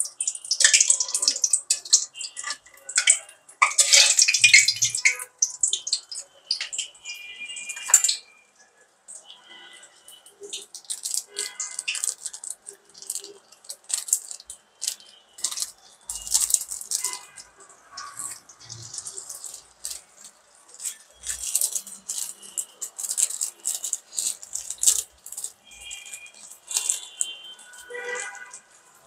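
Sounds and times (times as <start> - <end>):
food sizzling in hot oil: 0.0 - 8.4, 9.2 - 29.0.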